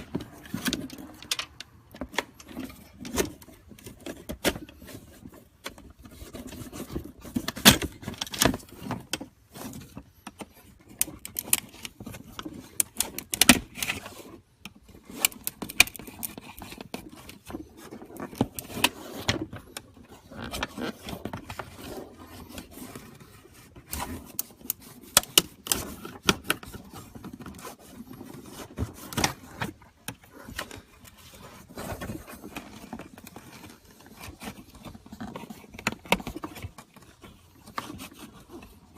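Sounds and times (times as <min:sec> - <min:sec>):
hand tool scraping plastic: 0:00.0 - 0:38.9.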